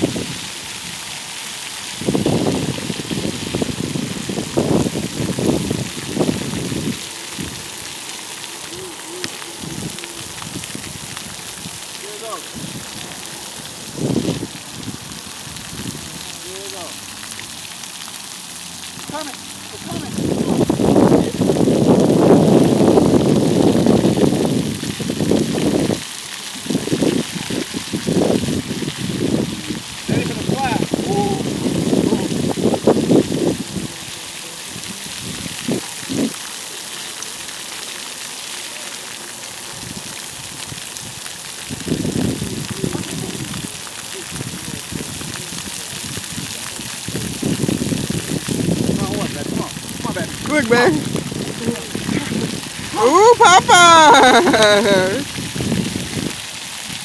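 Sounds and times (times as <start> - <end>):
fountain water hissing: 0.0 - 57.0.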